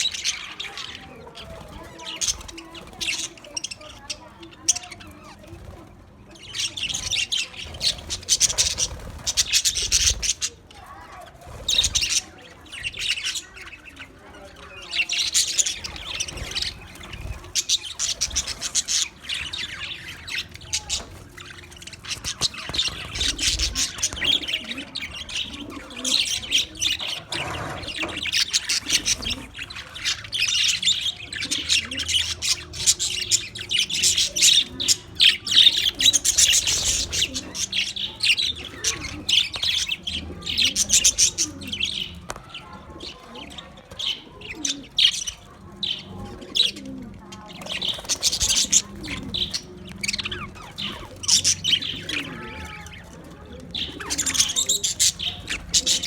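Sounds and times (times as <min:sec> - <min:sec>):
budgerigars chattering and warbling: 0:00.0 - 0:56.0.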